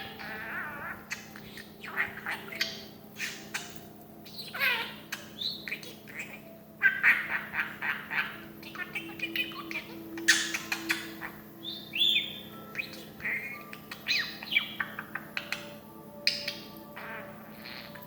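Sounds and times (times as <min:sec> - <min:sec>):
parrot squawking and chattering: 0:00.0 - 0:18.0.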